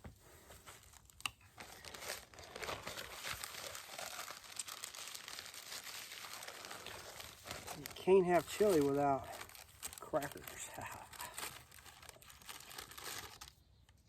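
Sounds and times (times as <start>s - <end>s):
plastic wrapper crinkling and tearing: 0.0s - 14.0s.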